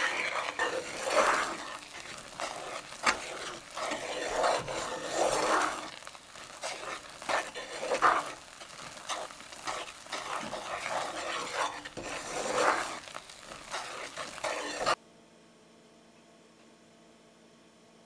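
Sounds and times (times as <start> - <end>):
light sizzle: 0.0 - 15.0
wooden spoon scraping a pan: 0.0 - 15.0.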